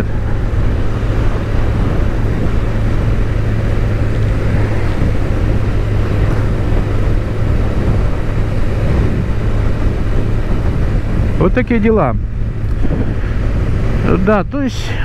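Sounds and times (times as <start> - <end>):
motorcycle engine drone: 0.0 - 15.0
wind and road noise: 0.0 - 15.0.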